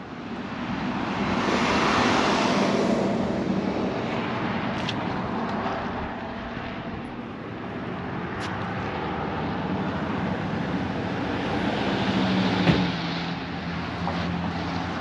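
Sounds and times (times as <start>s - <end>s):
passing vehicle rushing: 0.4s - 15.0s.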